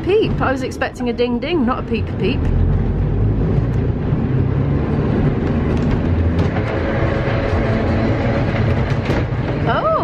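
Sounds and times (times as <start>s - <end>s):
tram rumbling on rails: 0.0s - 10.0s.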